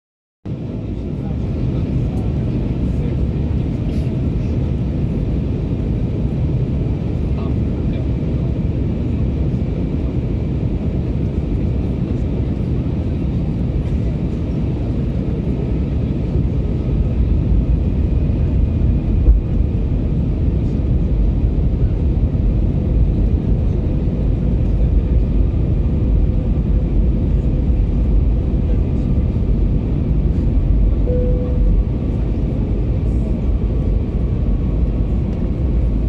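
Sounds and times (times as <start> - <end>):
airplane cabin engine rumble: 0.5 - 36.0.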